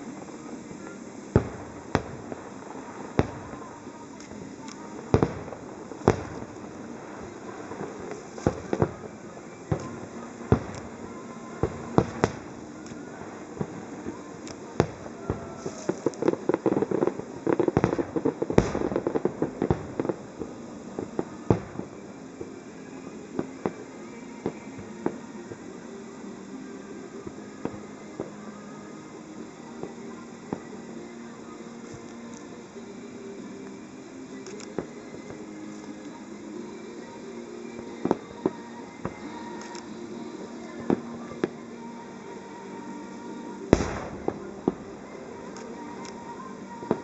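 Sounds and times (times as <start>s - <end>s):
firework shells bursting: 0.0s - 26.3s, 26.9s - 47.0s
firework crackling: 0.0s - 47.0s.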